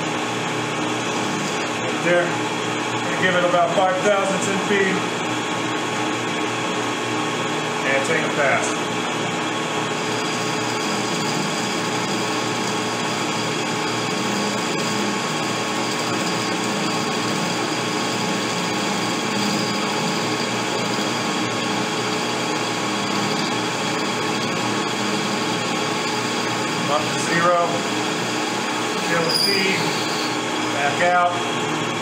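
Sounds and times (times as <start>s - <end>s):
metal lathe whirring: 0.0s - 32.0s.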